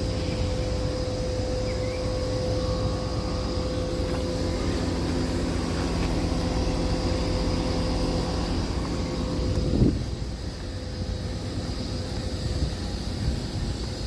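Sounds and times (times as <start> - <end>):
compressor hum: 0.0 - 14.0
condenser fans whooshing: 0.0 - 14.0.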